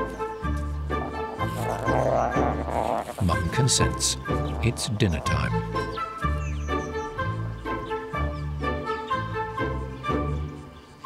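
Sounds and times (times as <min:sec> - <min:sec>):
background music with bass line: 0:00.0 - 0:10.8.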